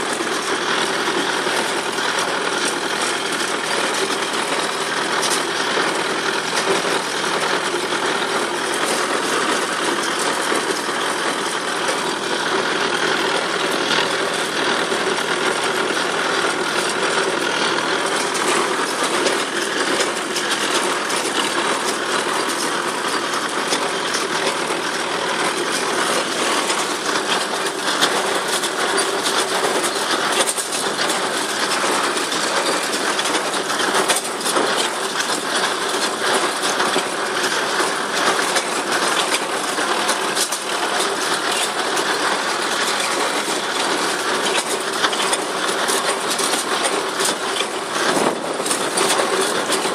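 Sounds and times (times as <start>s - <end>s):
baler mechanical clatter: 0.0s - 49.9s
tractor engine running: 0.0s - 49.9s.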